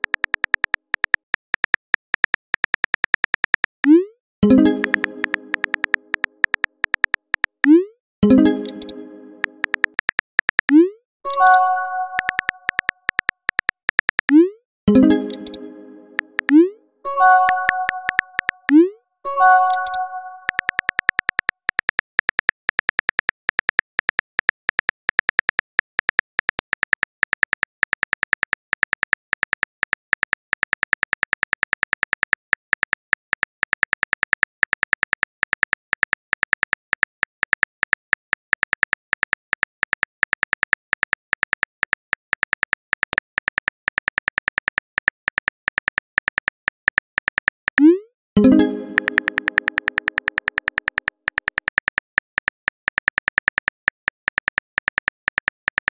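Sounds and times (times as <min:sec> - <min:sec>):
phone keyboard typing clicks: 0:00.0 - 0:55.9.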